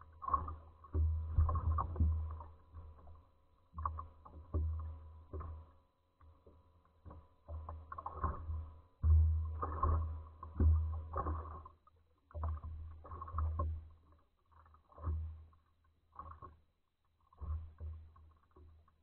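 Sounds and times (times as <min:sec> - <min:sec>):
waves slapping against boat hull: 0:00.0 - 0:05.7, 0:07.1 - 0:16.6.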